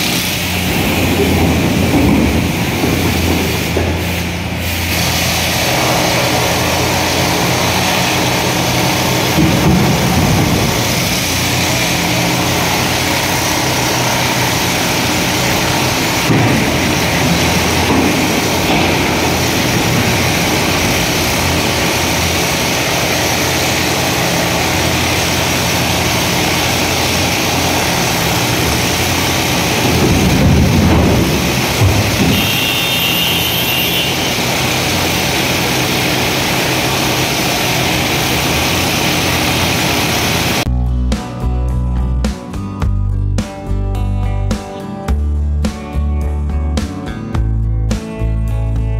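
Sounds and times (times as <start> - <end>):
excavator diesel engine running: 0.0 - 41.1.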